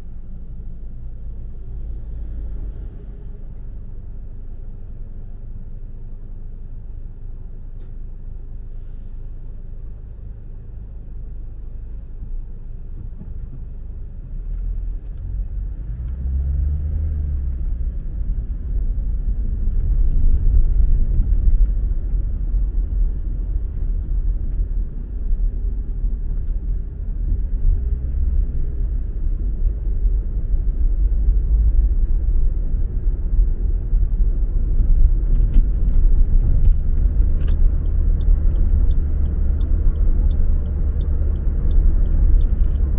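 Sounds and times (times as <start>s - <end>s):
car driving on road: 0.0s - 42.9s.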